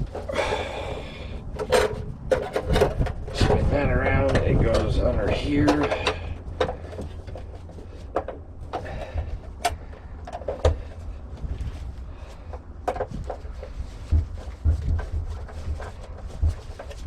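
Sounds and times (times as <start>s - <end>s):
hands clicking and knocking parts: 0.0s - 17.0s
steady low rumble: 0.0s - 17.0s.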